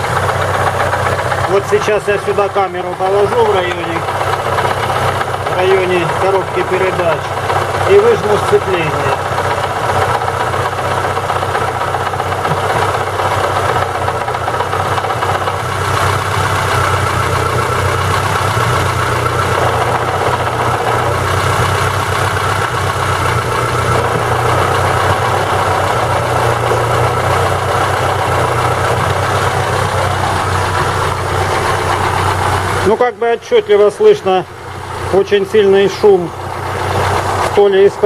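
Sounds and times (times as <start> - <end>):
car engine idling: 0.0 - 38.0
gearbox noise: 0.0 - 38.0.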